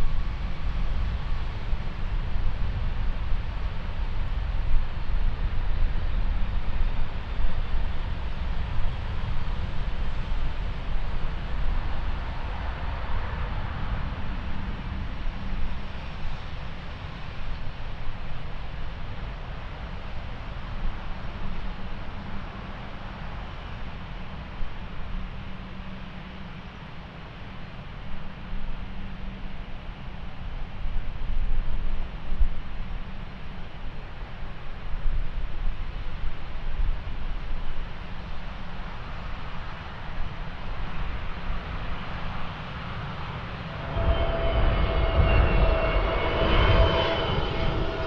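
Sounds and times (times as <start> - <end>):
jet airliner engine: 0.0 - 48.0
wind rumbling on microphone: 0.0 - 48.0.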